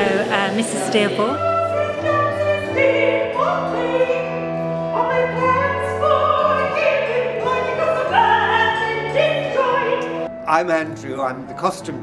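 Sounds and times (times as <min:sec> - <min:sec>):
classical theatrical music: 0:00.0 - 0:12.0.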